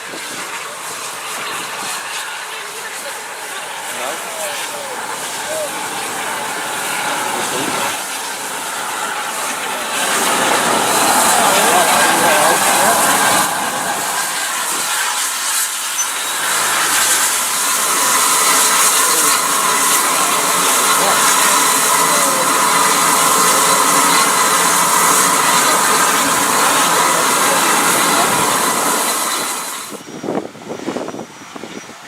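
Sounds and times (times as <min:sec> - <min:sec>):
steam locomotive hissing steam: 0:00.0 - 0:31.8.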